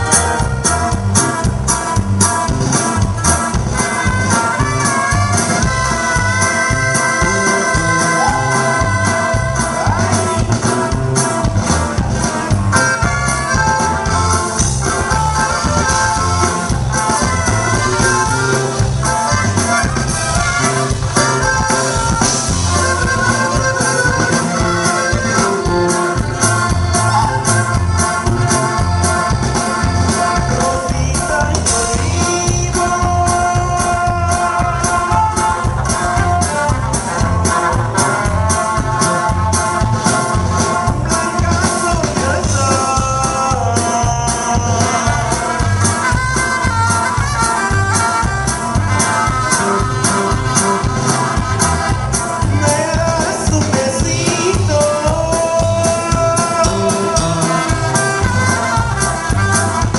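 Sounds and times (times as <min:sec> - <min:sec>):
saxophone: 0:00.0 - 0:42.1, 0:44.6 - 0:53.2, 0:56.0 - 0:59.9
accordion: 0:00.0 - 0:59.9
live band playing dance music: 0:00.0 - 0:59.9.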